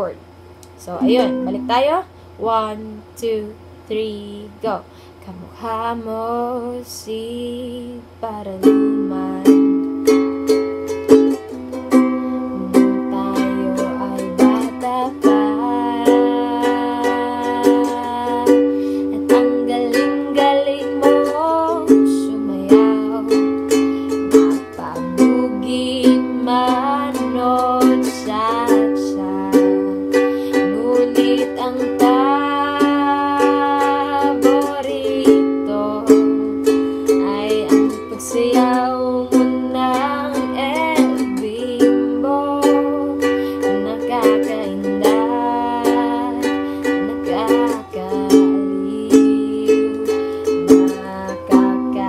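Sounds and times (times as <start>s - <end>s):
woman singing: 0.8s - 9.9s, 11.4s - 52.0s
ukulele strumming: 1.0s - 1.9s, 5.6s - 52.0s.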